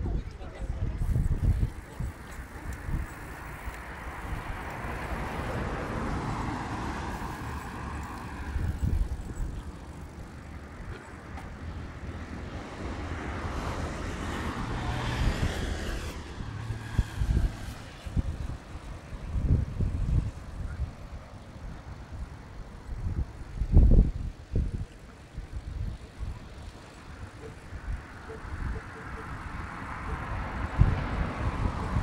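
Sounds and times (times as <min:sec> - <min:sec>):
cars passing: 0:00.0 - 0:24.0, 0:25.3 - 0:32.0
wind rumble on microphone: 0:00.0 - 0:32.0.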